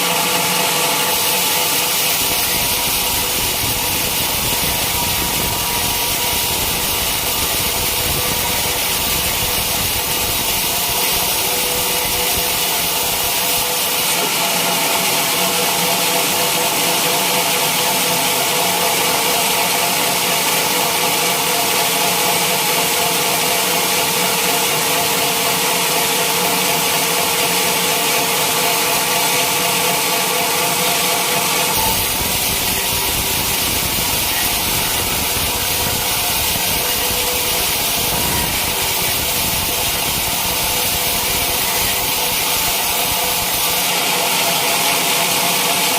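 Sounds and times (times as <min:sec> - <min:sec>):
sawmill saw cutting log: 0:00.0 - 0:45.9.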